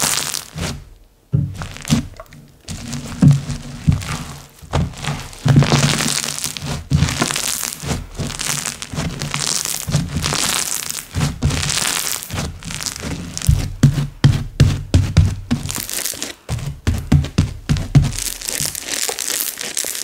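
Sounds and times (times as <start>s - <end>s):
slime squishing: 0.0s - 20.0s.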